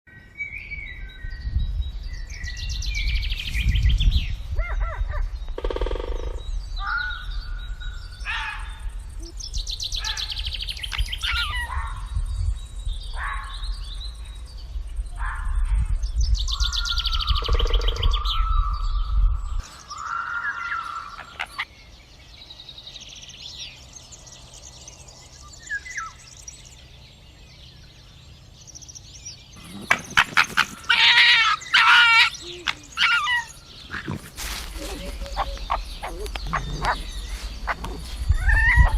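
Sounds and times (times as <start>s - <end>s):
wild birds chirping and trilling: 0.1s - 38.9s.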